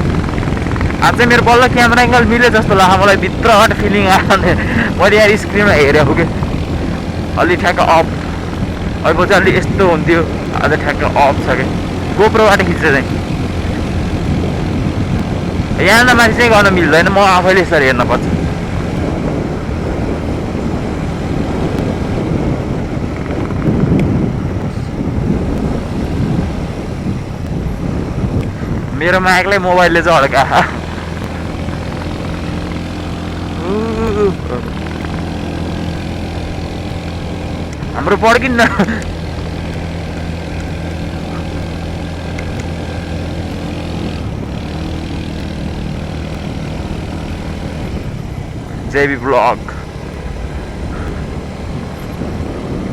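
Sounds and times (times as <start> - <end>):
wind on microphone: 0.0 - 38.0, 38.8 - 49.0, 49.6 - 52.9
motorcycle engine running: 0.0 - 52.9.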